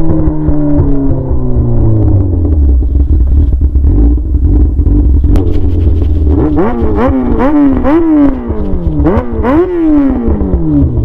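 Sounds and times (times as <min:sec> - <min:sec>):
motorcycle engine idling loudly: 0:01.9 - 0:11.0.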